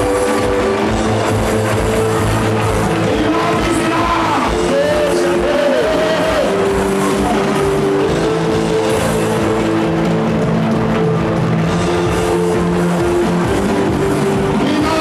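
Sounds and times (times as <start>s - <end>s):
live band worship music: 0.0s - 15.0s.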